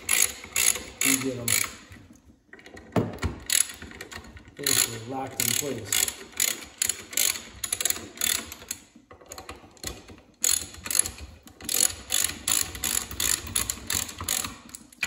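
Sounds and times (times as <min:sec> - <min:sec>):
socket ratchet clicking: 0:00.0 - 0:02.0, 0:03.3 - 0:15.0.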